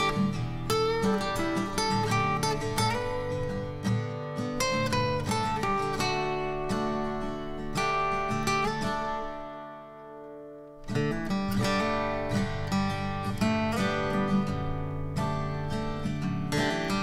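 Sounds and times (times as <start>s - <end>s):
strummed acoustic guitar music: 0.0s - 17.0s.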